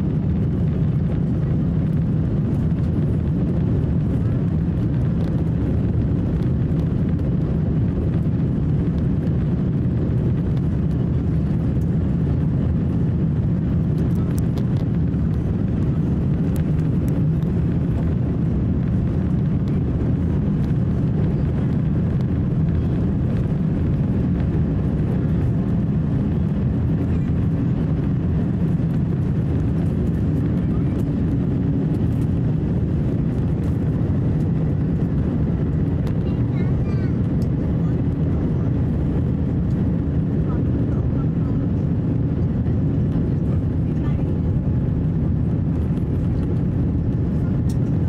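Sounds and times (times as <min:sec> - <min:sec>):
jet engines low rumble: 0:00.0 - 0:48.0.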